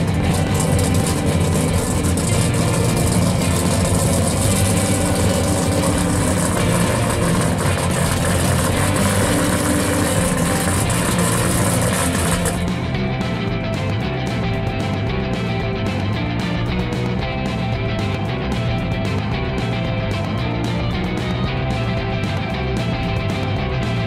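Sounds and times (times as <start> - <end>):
car engine running at low revs: 0.0 - 24.0.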